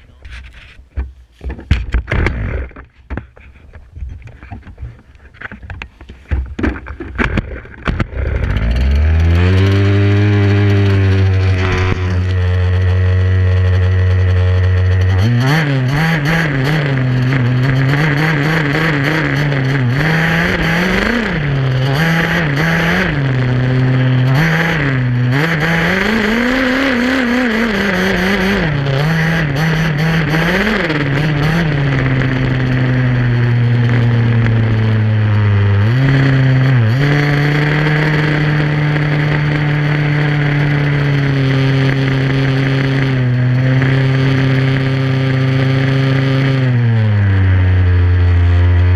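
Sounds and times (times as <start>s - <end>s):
small two-stroke engine revving: 7.6s - 48.9s.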